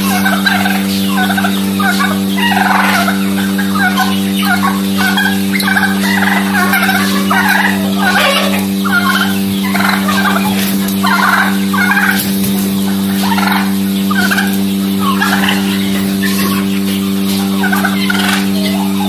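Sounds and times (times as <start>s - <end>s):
steady low hum: 0.0s - 19.0s
turkeys calling: 0.0s - 19.0s.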